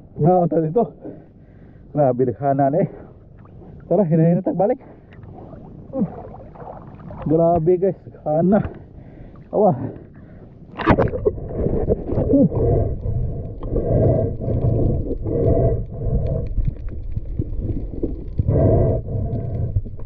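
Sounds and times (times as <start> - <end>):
muffled underwater surges: 2.9 - 20.0.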